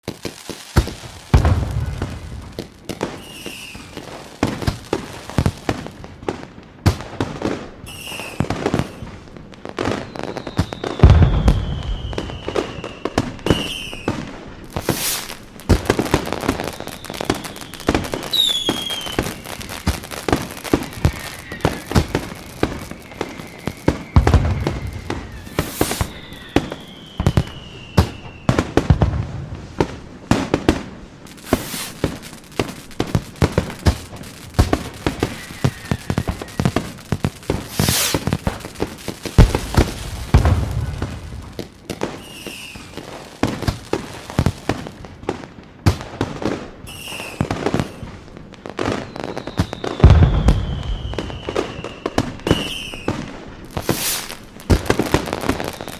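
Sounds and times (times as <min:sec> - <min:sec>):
fireworks crackling bangs: 0:00.0 - 0:55.9
whistling fireworks: 0:00.0 - 0:55.9
deep firework booms: 0:00.8 - 0:07.7, 0:08.4 - 0:46.7, 0:47.3 - 0:55.6.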